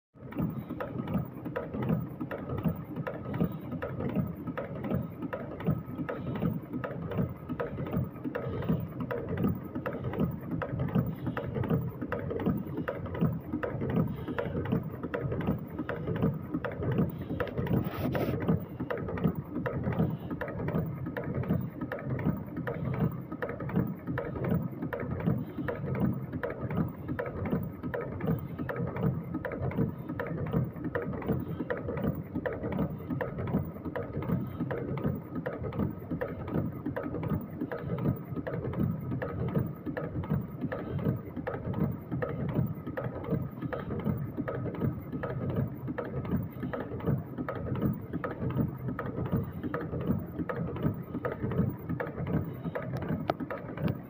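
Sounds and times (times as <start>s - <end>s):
wire-forming machine clatter: 0.4s - 54.0s.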